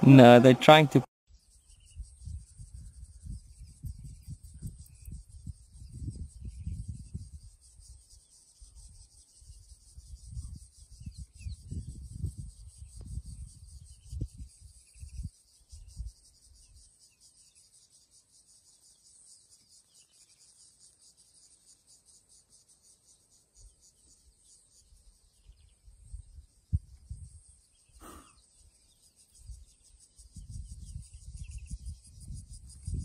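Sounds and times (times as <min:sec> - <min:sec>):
insect chorus chirring: 0:00.7 - 0:33.0.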